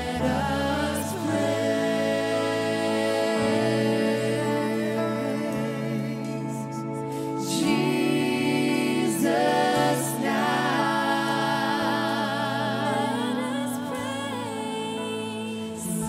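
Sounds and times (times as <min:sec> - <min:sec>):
keyboard and guitar chords: 0:00.0 - 0:16.0
singers holding long notes: 0:00.0 - 0:16.0.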